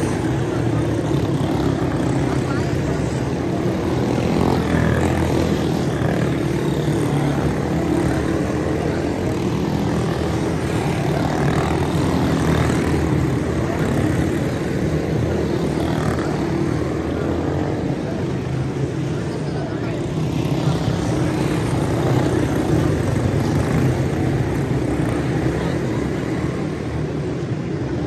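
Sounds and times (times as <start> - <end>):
small race car engines buzzing: 0.0 - 28.0.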